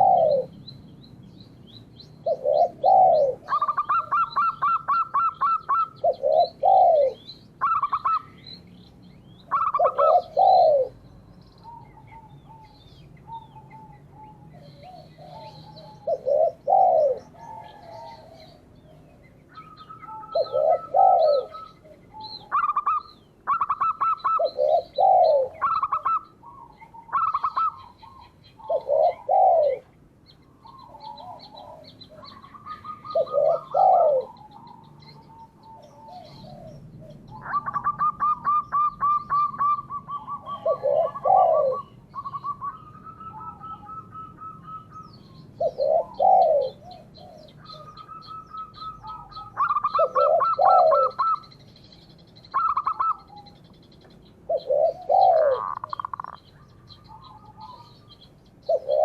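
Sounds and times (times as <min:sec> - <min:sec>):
doves cooing: 0:00.0 - 0:01.0, 0:02.0 - 0:59.0
small bird chirping: 0:00.0 - 0:59.0.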